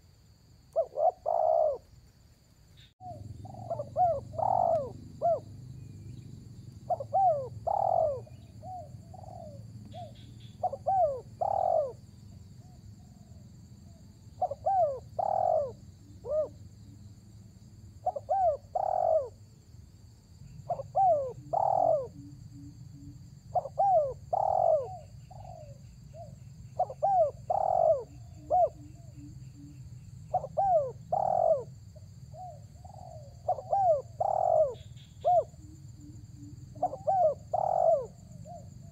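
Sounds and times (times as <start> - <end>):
dove cooing: 0.7 - 1.9, 3.0 - 6.0, 6.8 - 12.0, 12.6 - 17.0, 18.0 - 19.4, 20.6 - 38.9.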